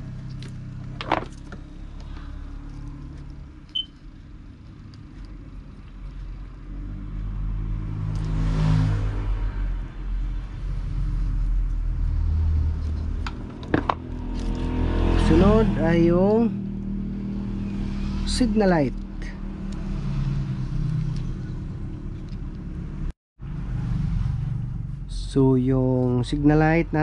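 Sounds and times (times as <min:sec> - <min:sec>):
vehicle engines humming: 0:00.0 - 0:27.0.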